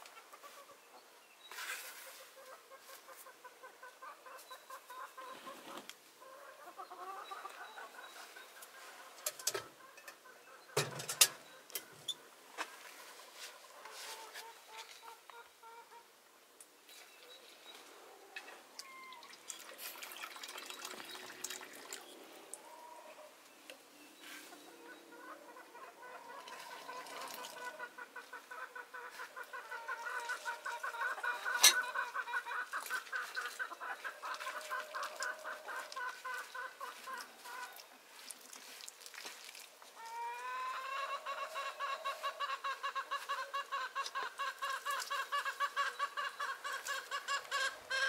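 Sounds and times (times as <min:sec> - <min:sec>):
chickens clucking: 0:00.0 - 0:16.2, 0:20.8 - 0:38.3, 0:40.0 - 0:48.0.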